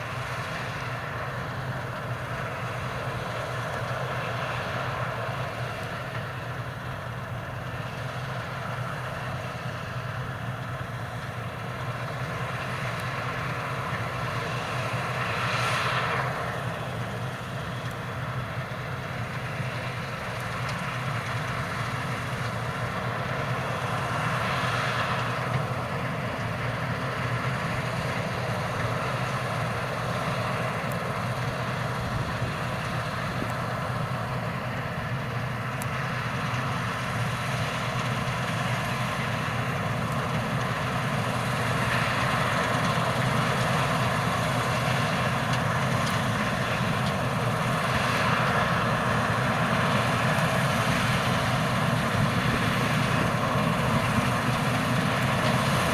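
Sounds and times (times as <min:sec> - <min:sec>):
combine harvester engine drone: 0:00.0 - 0:55.9.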